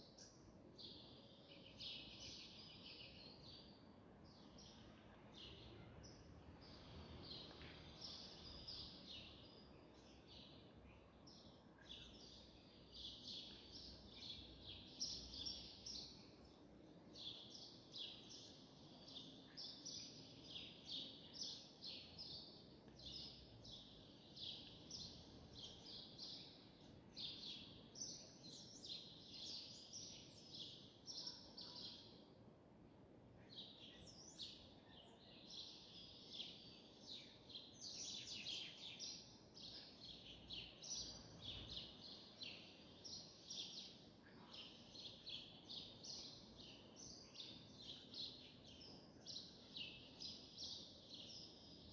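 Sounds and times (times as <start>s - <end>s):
small birds chirping: 0.0s - 32.4s, 33.3s - 51.9s
low background hiss: 0.0s - 51.9s.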